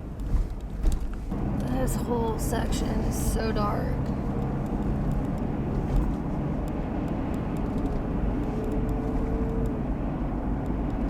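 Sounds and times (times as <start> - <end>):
road and wind noise in car: 0.0 - 11.0.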